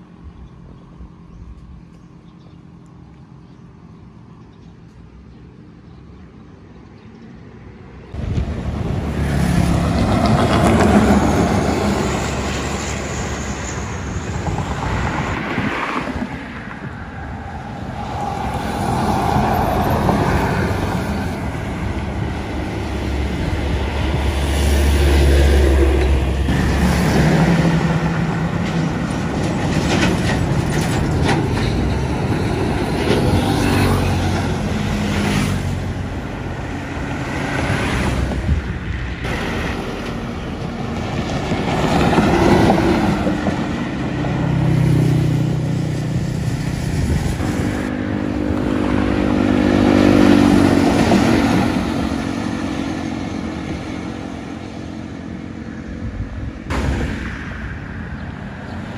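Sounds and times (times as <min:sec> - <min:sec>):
buses passing on highway: 0:00.0 - 0:58.9.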